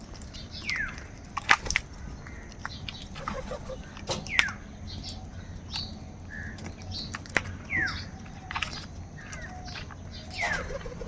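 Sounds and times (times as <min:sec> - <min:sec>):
bird chirps: 0:00.0 - 0:11.0
crows calling: 0:00.0 - 0:11.0.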